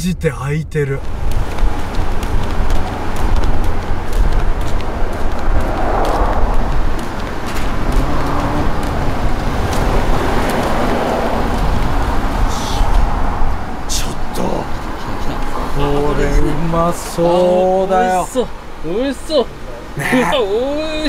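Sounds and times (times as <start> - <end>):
steady low rumble: 0.0 - 17.2
cars passing: 0.7 - 21.0.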